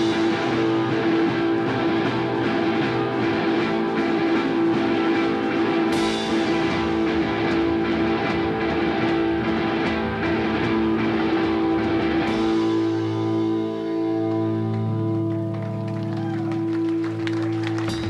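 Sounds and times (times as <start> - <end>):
drum kit: 0.0 - 14.9, 16.1 - 18.0
electric guitars: 0.0 - 18.0.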